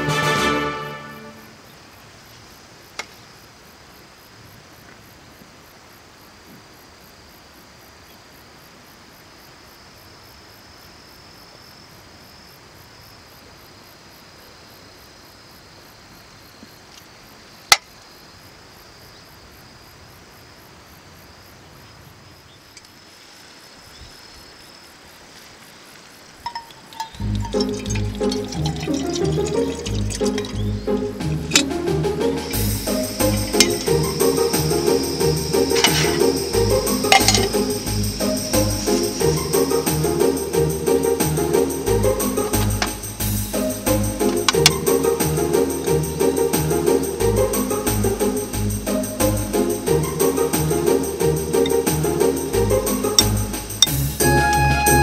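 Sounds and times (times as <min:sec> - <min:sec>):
faint outdoor ambience: 0:00.0 - 0:55.0
insects trilling: 0:01.2 - 0:54.3.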